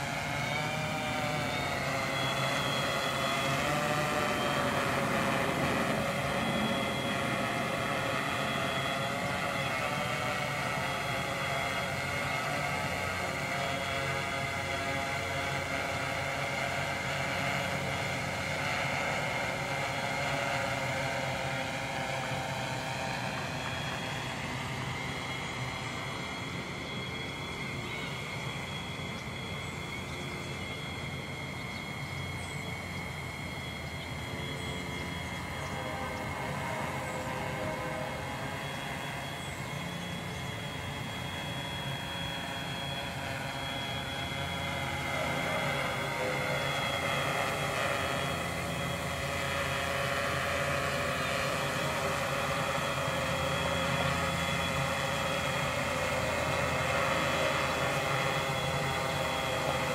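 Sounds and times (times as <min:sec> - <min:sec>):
drone motors buzzing: 0:00.0 - 0:59.9
high propeller whine: 0:00.0 - 0:59.9.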